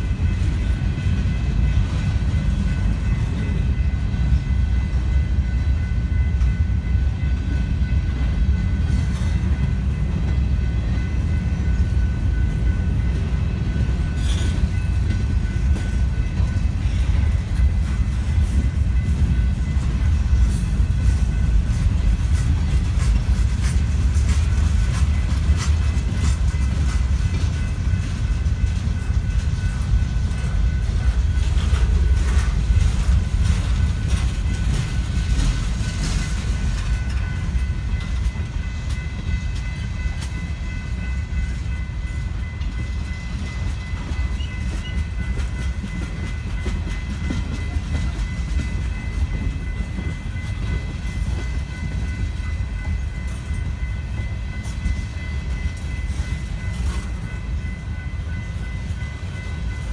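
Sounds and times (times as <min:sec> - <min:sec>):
freight train cars rumbling: 0:00.0 - 0:59.9.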